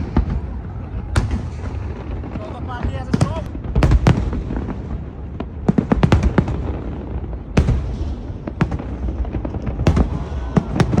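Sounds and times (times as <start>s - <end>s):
fireworks bangs and crackles: 0.0s - 11.0s
fireworks booms: 0.0s - 11.0s.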